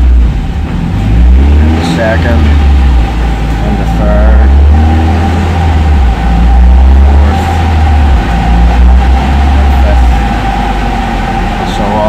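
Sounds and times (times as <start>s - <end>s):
car engine low drone: 0.0s - 12.0s.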